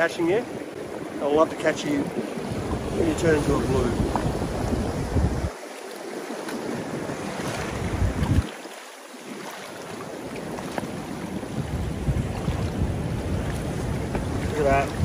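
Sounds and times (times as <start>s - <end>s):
wind buffeting microphone: 0.0s - 8.6s, 10.0s - 15.0s
small waves breaking on rocks: 0.0s - 15.0s.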